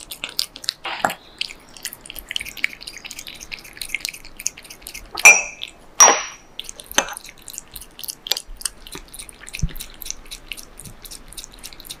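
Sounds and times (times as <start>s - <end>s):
cat licking and eating: 0.0s - 12.0s.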